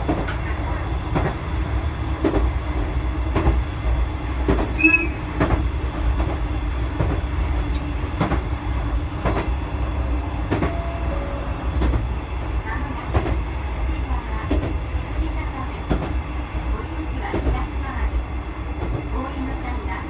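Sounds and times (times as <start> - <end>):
railcar rumble and hum: 0.0 - 20.0.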